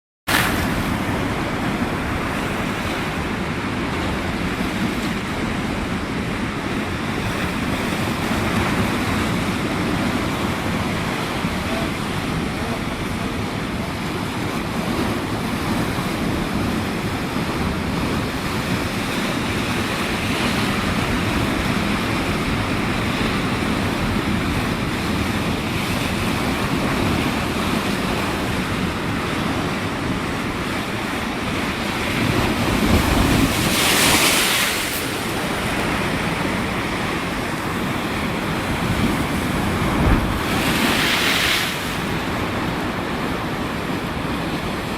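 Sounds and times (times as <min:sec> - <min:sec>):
sea waves breaking: 0:00.3 - 0:44.9
wind buffeting microphone: 0:00.4 - 0:44.9.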